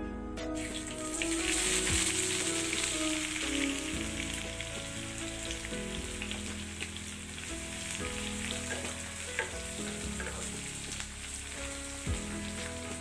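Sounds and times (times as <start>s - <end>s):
background music: 0.0s - 13.0s
food sizzling in hot oil: 0.6s - 13.0s.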